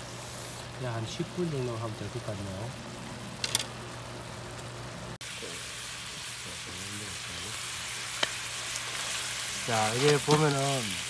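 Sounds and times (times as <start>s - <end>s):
squid sizzling in a frying pan: 0.0s - 11.0s.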